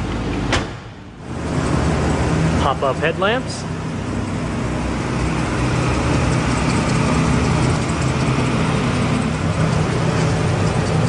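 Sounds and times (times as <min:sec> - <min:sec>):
rotary engine idling: 0:01.1 - 0:11.0.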